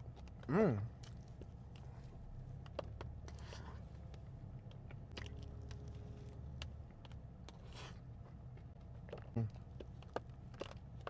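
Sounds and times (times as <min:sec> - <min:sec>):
faint chewing: 0:00.0 - 0:11.0
low steady background hum: 0:00.0 - 0:11.0.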